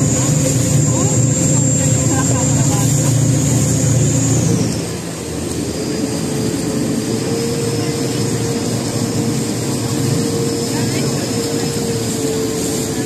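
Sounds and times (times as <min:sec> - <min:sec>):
motorboat engine running: 0:00.0 - 0:13.0
water rushing: 0:00.0 - 0:13.0
wind: 0:00.0 - 0:13.0.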